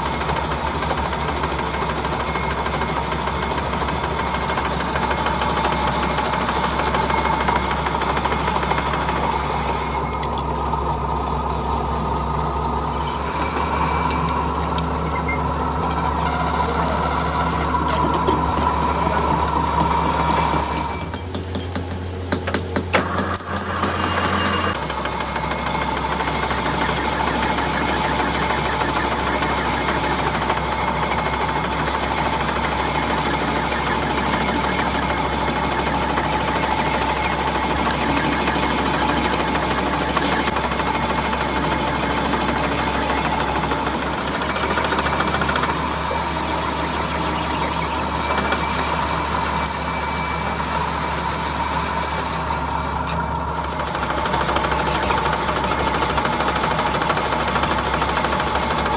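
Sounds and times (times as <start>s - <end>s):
metal lathe cutting metal: 0.0s - 21.2s, 23.0s - 58.9s.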